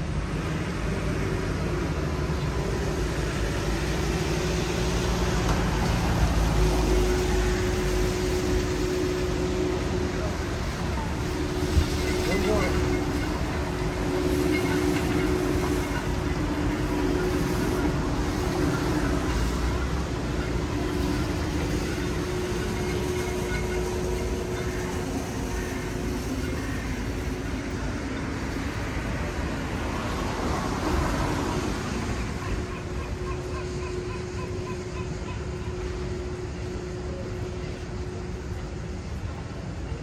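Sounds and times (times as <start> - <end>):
city street noise: 0.0 - 40.0
vehicle humming: 0.0 - 40.0.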